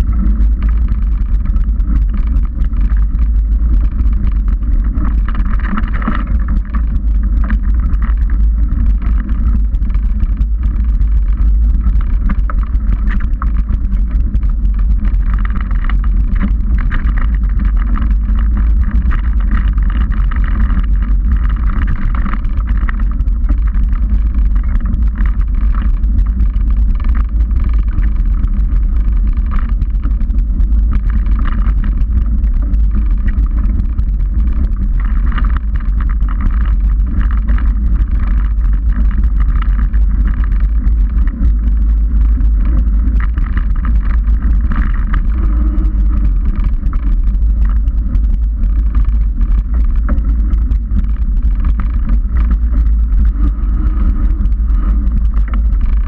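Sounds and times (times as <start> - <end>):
wind and ride vibration rumble: 0.0 - 56.0.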